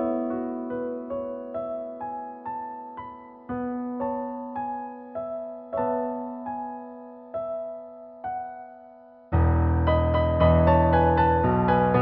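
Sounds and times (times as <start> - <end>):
soft keyboard melody: 0.0 - 12.0.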